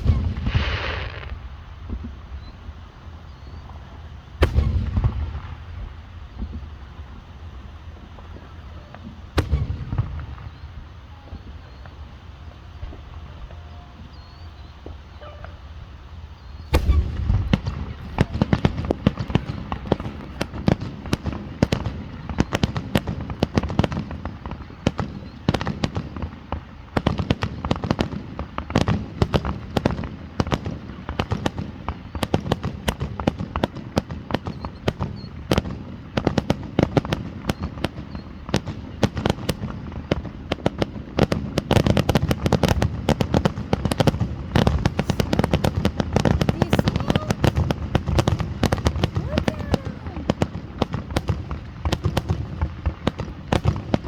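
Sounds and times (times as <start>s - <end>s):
fireworks cracking and popping: 0.0s - 15.6s, 16.4s - 54.0s.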